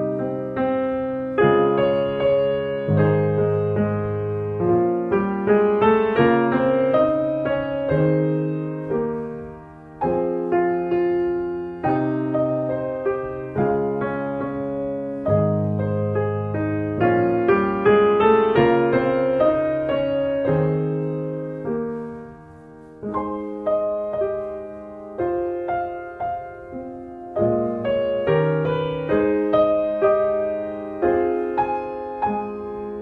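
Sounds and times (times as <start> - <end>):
slow piano melody: 0.0 - 33.0.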